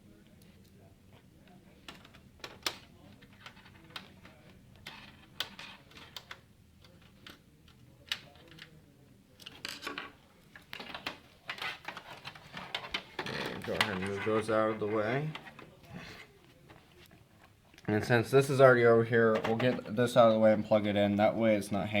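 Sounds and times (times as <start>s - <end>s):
hands handling computer parts: 0.2s - 17.8s, 19.2s - 20.1s.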